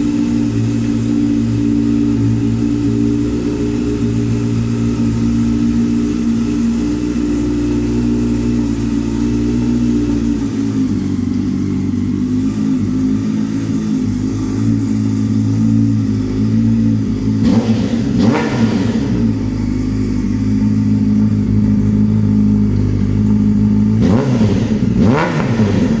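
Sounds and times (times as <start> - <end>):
motorcycle engine idling: 0.0 - 26.0
motorcycle engine revving: 0.0 - 26.0.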